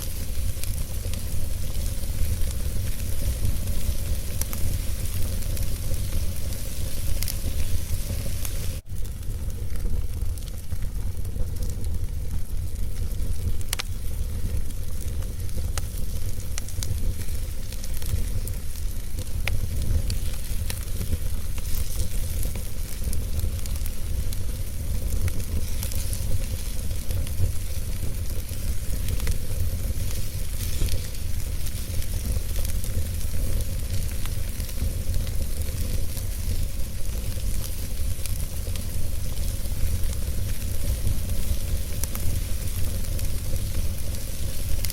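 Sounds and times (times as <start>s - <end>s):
low fire rumble: 0.0s - 44.9s
wood fire crackling and popping: 0.0s - 44.9s.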